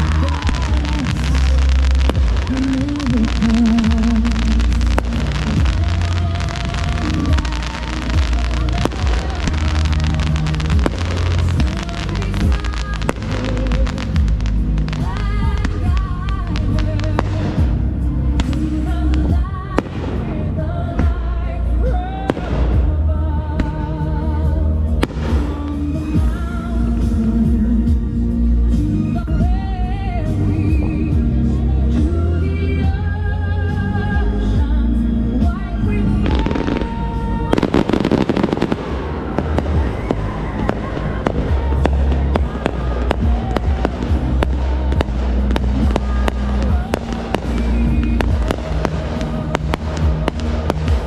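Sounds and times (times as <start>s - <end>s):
fireworks bangs: 0.0s - 28.1s, 35.4s - 51.0s
fireworks crackling hiss: 0.0s - 33.0s, 35.0s - 51.0s
low rumble: 0.0s - 51.0s
music: 0.0s - 51.0s
pop song with singer: 0.0s - 51.0s.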